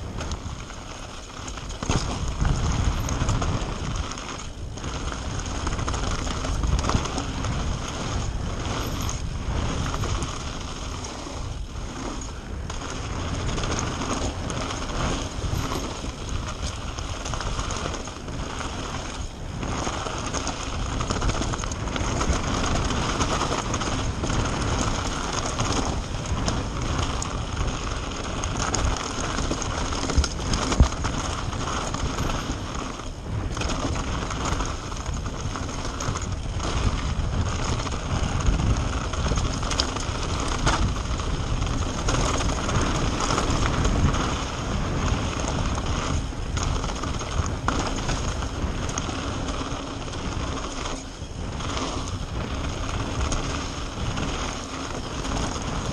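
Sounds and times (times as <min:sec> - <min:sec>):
bike clattering over stones: 0:00.0 - 0:55.9
wind and tyre noise: 0:00.0 - 0:55.9.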